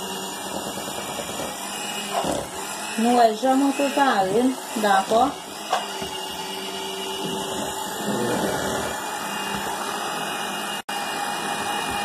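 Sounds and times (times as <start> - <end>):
electric hand mixer running: 0.0 - 12.0.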